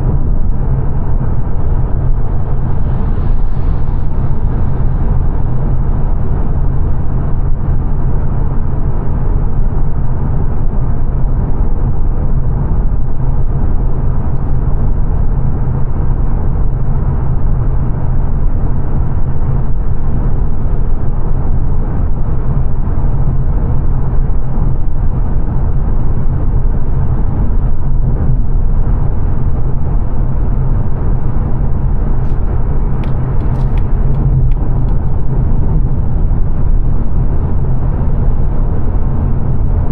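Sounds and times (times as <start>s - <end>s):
car engine hum: 0.0s - 39.9s
road and tyre noise in car: 0.0s - 39.9s.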